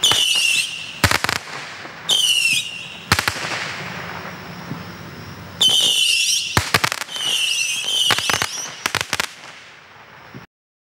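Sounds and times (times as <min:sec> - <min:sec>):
firework cracking reports: 0:00.0 - 0:10.5
firework whistle: 0:00.0 - 0:10.5.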